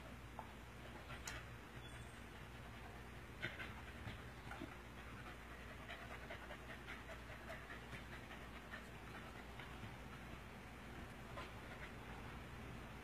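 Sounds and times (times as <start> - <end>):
dog panting and snuffling: 0.7 - 12.6.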